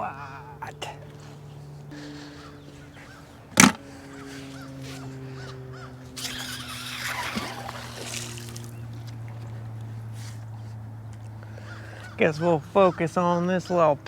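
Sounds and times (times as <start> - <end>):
low hum: 0.0 - 12.8
birds calling: 0.0 - 14.0.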